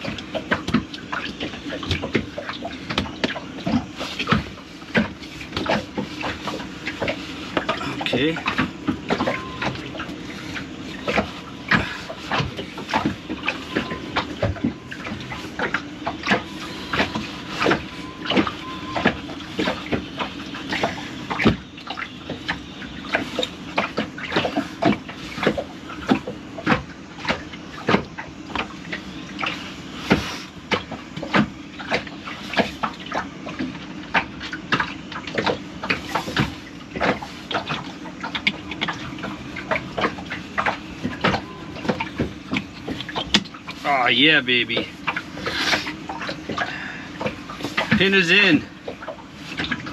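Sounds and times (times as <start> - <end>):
pump parts clicking and knocking: 0.0 - 49.9
steady low hum: 0.0 - 49.9.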